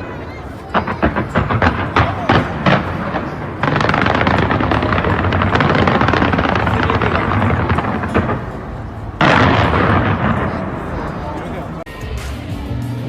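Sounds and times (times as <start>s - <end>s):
fireworks crackling: 0.0s - 11.9s
steady fireworks rumble: 0.0s - 11.9s.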